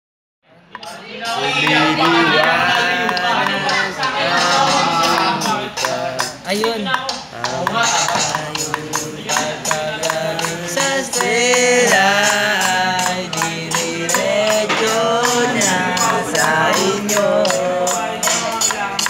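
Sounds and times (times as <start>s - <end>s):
drum app beat: 0.8s - 19.0s
person singing: 0.8s - 19.0s.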